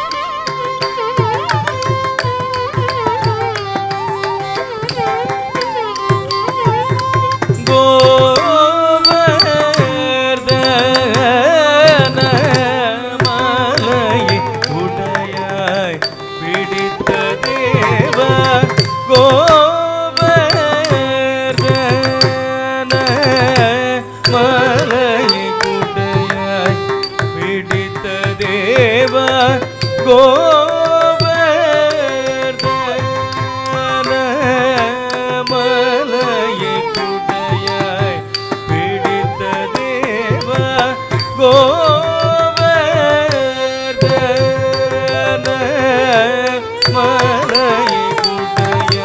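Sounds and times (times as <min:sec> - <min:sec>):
person singing: 0:00.0 - 0:49.0.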